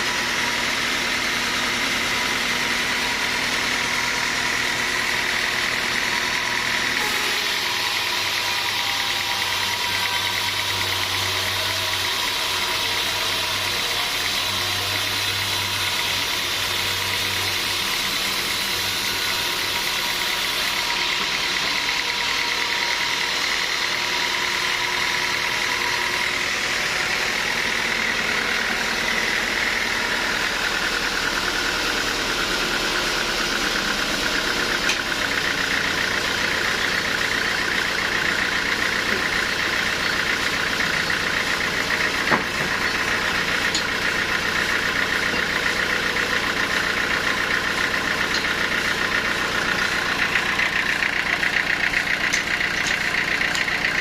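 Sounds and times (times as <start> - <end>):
high machine whine: 0.0 - 54.0
sawmill machinery drone: 0.0 - 54.0.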